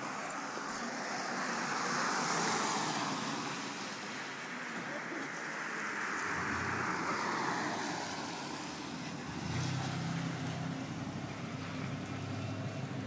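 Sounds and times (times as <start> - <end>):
tyres hissing on wet road: 1.2 - 4.6, 5.2 - 12.8.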